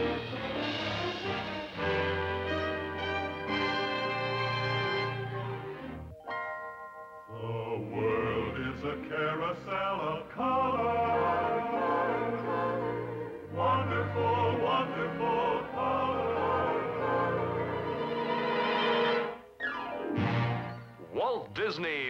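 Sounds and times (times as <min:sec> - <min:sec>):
choir singing: 0:00.0 - 0:05.9, 0:07.3 - 0:19.4
orchestra playing: 0:00.0 - 0:07.3, 0:10.6 - 0:21.1.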